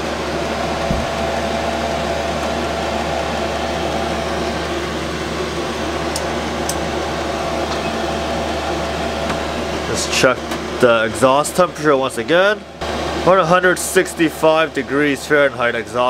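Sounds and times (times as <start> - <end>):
heater blower rushing and humming: 0.0 - 16.0.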